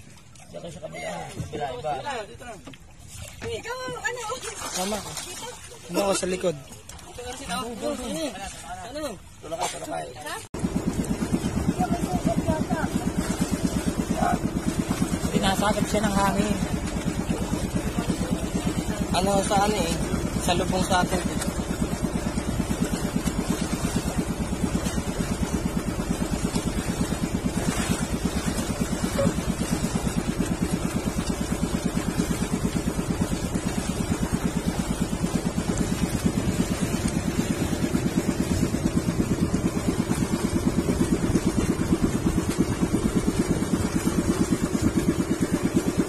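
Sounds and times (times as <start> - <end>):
small boat engine chugging: 0.0 - 46.0.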